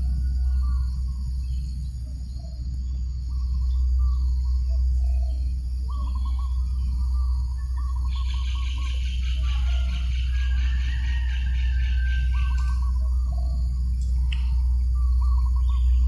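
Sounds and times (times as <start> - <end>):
bird trill: 0.0 - 16.0
birds calling: 0.0 - 16.0
breeze rumbling on microphone: 0.0 - 16.0.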